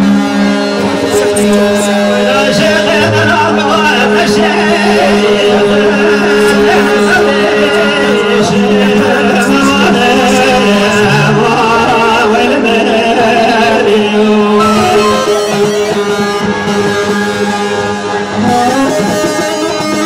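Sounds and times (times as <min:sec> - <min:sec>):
man singing into microphone: 0:00.0 - 0:16.7
accompaniment drone: 0:00.0 - 0:19.8.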